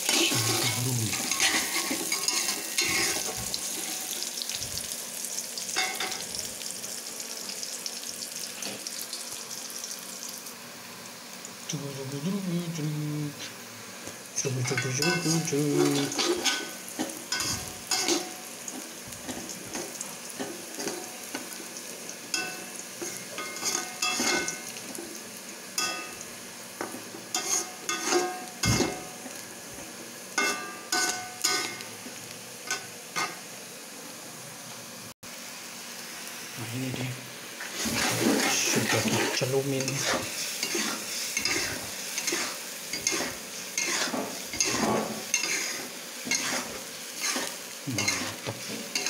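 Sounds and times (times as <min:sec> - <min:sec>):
garlic sizzling in oil: 0:00.0 - 0:49.0.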